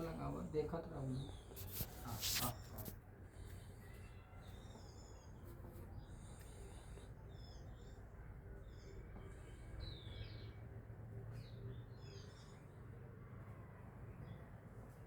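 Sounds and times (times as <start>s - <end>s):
small birds chirping: 0.0s - 13.4s.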